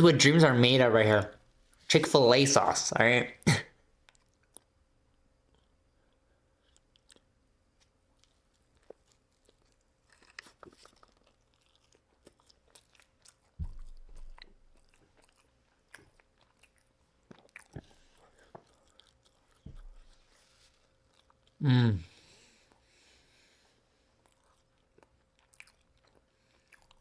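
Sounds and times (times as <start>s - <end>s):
chewing and crunching food: 3.9s - 27.0s.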